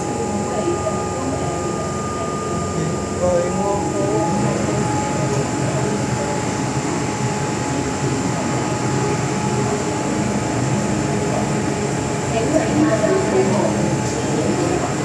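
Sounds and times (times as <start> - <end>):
thin steady whine: 0.0 - 15.0.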